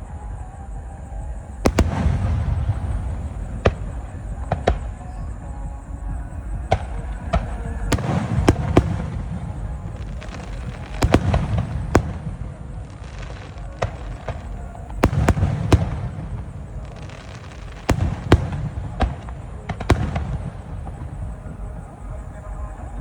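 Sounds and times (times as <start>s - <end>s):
continuous low rumble: 0.0s - 23.0s.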